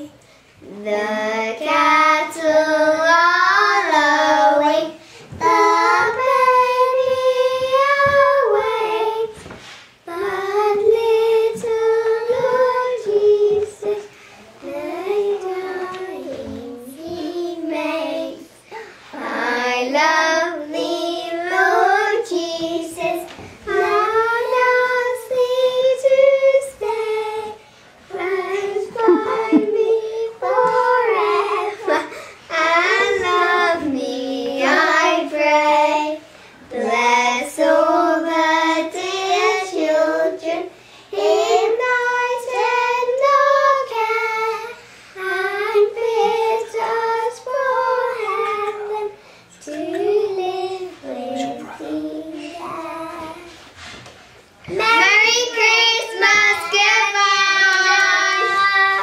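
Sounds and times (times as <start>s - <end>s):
young girls singing: 0.0s - 54.0s, 54.6s - 59.0s.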